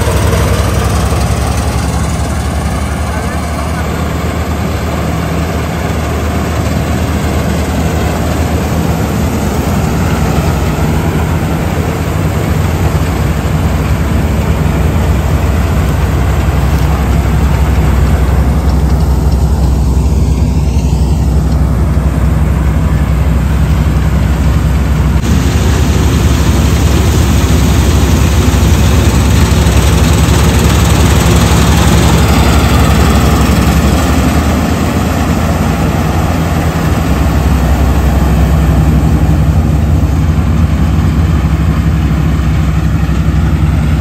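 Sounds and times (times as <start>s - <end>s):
heavy machinery engine humming: 0.0s - 44.0s.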